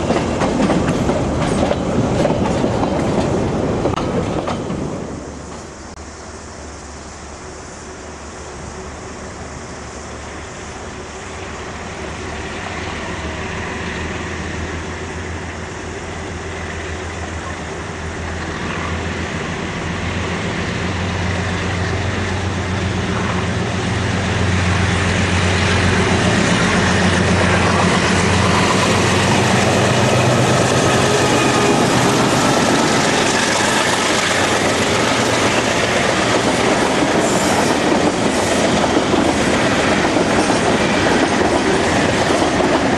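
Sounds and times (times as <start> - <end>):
freight train approaching: 0.0 - 42.9
wheel and rail noise: 0.0 - 42.9.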